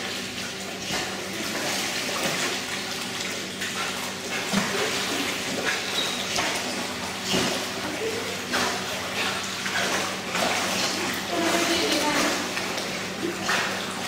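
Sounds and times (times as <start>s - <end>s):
water splashing and churning: 0.0s - 14.0s
dog paddling in water: 0.2s - 14.0s.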